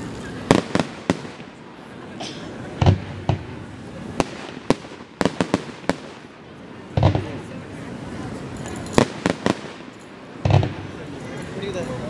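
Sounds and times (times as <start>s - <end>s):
fireworks shells bursting: 0.0s - 7.6s, 8.3s - 12.0s.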